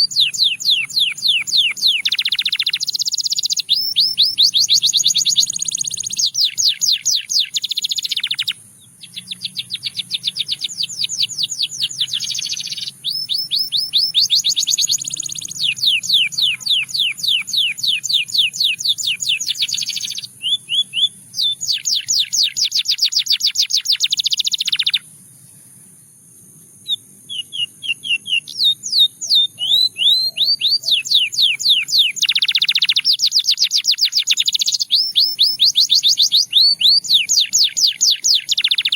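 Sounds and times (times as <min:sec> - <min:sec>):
canary trilling: 0:00.0 - 0:25.1, 0:27.3 - 0:38.9.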